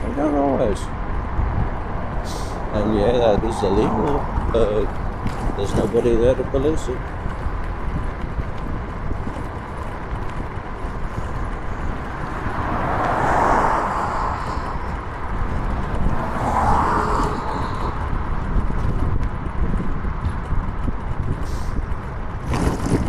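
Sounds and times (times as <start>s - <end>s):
road and wind rumble: 0.0s - 23.0s
vehicles passing: 0.0s - 23.0s.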